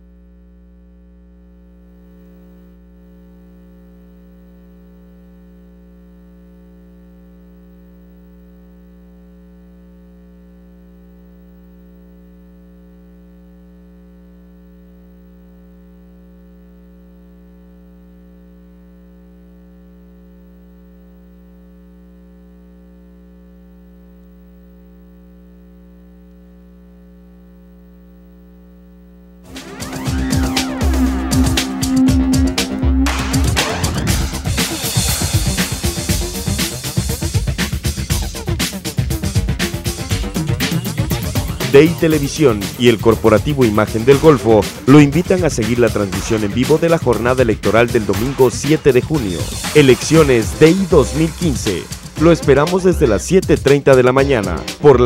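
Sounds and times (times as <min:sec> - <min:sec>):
electrical hum: 0:00.0 - 0:53.5.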